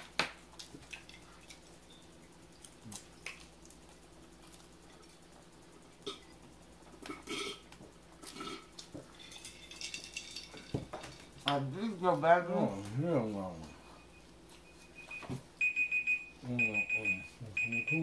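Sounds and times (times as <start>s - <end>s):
people chewing: 0.5s - 15.0s.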